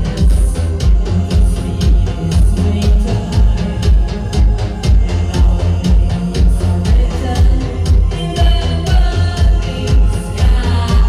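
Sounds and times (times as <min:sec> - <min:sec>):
heavy kick drum beat: 0:00.0 - 0:11.0
synth-pop band playing: 0:00.0 - 0:11.0
woman singing: 0:00.0 - 0:11.0.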